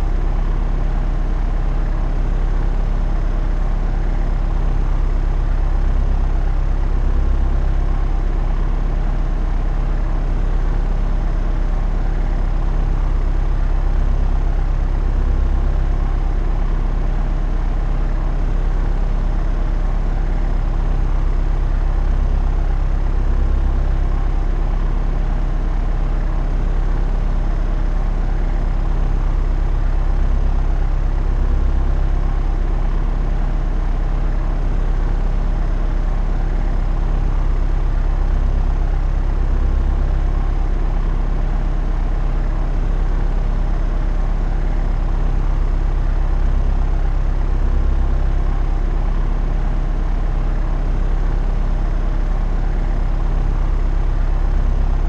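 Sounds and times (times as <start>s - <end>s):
propeller aircraft drone: 0.0s - 55.0s.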